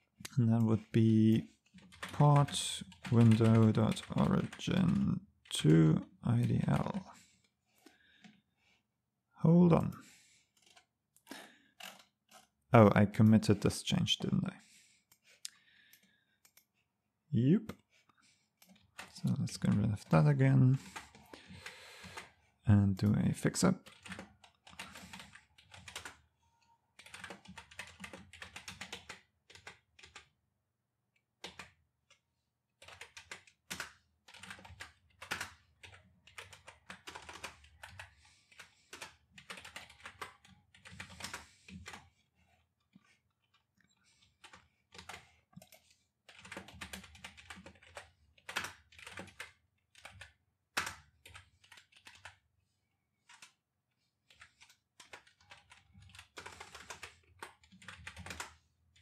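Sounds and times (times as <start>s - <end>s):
keyboard typing: 0.2s - 8.4s, 9.8s - 13.8s, 15.1s - 16.7s, 18.6s - 30.3s, 31.4s - 32.2s, 32.8s - 52.4s, 53.2s - 53.6s, 54.2s - 59.0s.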